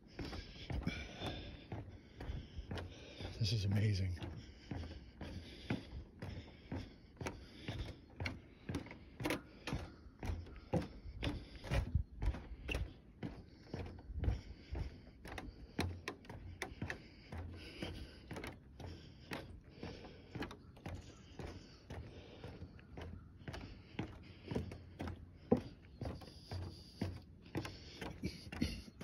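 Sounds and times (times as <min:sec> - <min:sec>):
footsteps on wooden boardwalk: 0:00.0 - 0:29.0.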